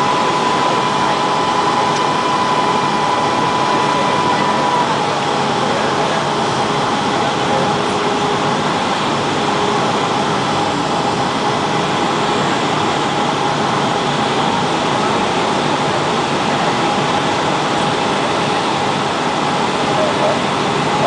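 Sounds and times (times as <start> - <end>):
aircraft cabin engine noise: 0.0 - 21.0
thin held whine: 0.0 - 21.0.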